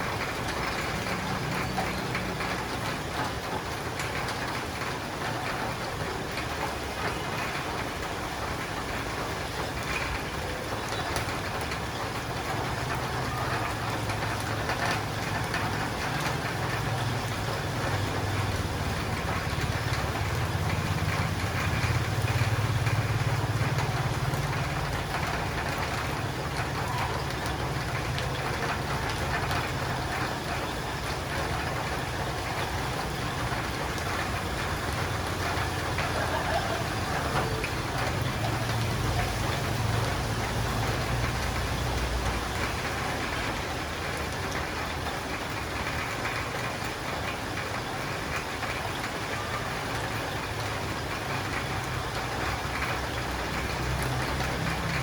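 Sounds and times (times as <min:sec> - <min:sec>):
rain on a roof and windows: 0:00.0 - 0:55.0.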